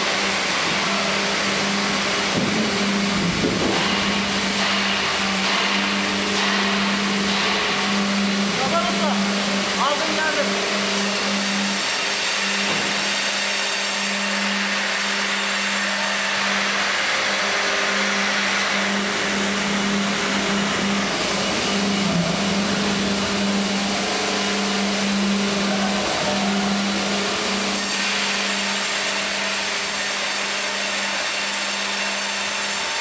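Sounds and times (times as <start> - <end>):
band saw motor hum: 0.0 - 33.0
saw blade whine and hiss: 0.0 - 33.0.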